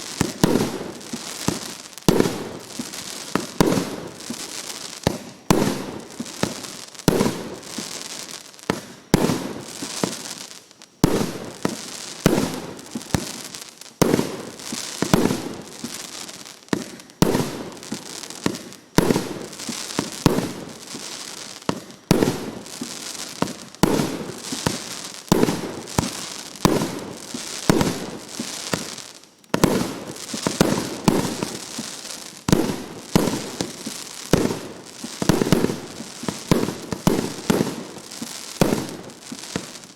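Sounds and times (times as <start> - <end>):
fireworks crackling: 0.0 - 39.9
fireworks shots: 0.0 - 39.9.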